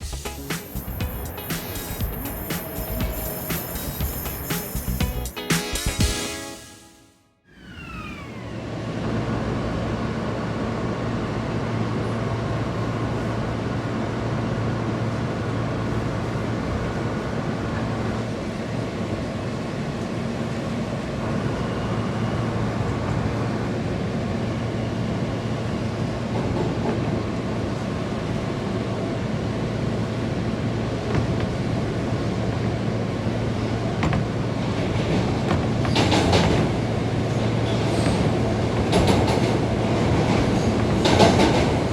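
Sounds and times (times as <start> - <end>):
subway train rumbling on rails: 0.0 - 5.5, 7.5 - 41.9.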